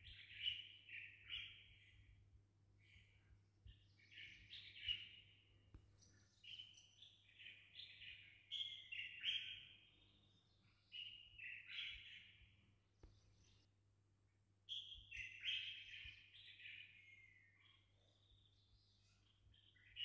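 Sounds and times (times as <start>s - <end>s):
faint bird song: 0.0s - 20.0s.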